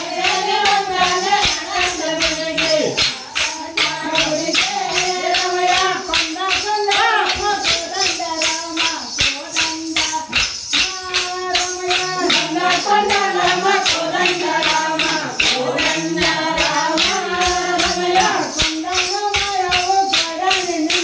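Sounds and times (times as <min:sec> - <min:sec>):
people singing: 0:00.0 - 0:21.0
wooden sticks clacking: 0:00.0 - 0:21.0.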